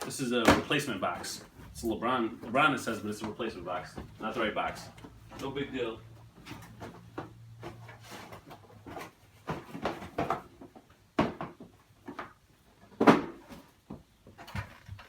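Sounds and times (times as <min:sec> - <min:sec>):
cardboard boxes being handled: 0:00.3 - 0:15.0.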